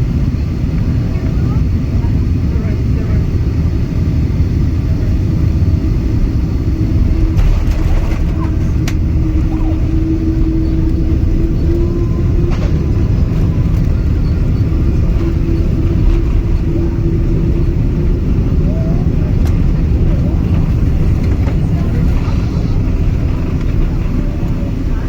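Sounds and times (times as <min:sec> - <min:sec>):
engine and airflow rumble: 0:00.0 - 0:25.0
steady hum: 0:00.0 - 0:25.0.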